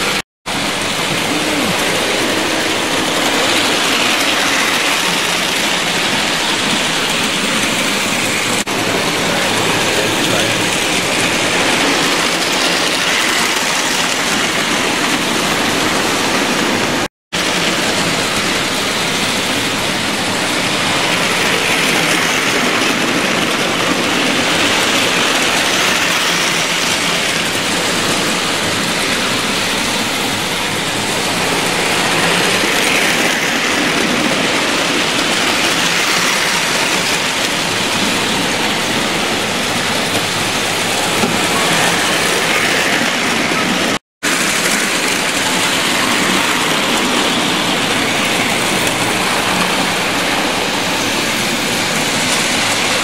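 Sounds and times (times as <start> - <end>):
model train wheels on track: 0.0 - 53.0.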